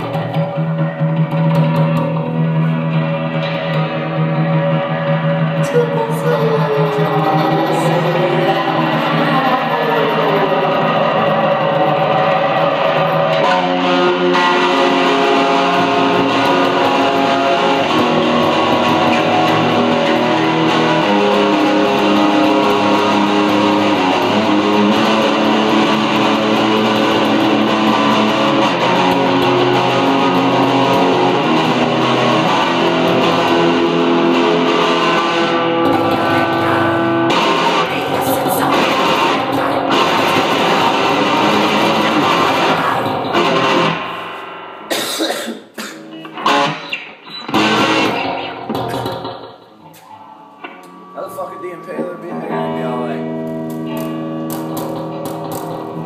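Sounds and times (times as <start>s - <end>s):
loud electric guitar jam: 0.0s - 56.0s.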